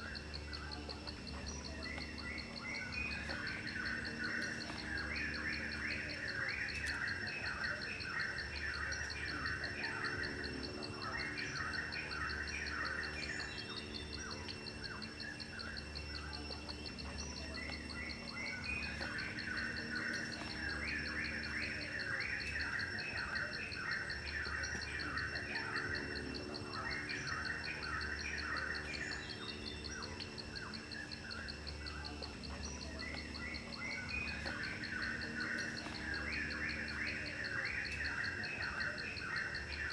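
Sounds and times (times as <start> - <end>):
birds chirping: 0.0 - 39.9
pulsing insect trill: 0.0 - 39.9.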